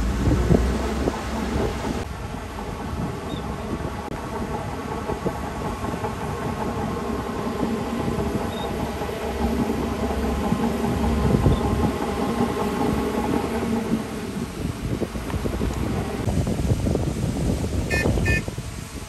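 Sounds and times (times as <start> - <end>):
bulldozer diesel engine under load: 0.0 - 16.7.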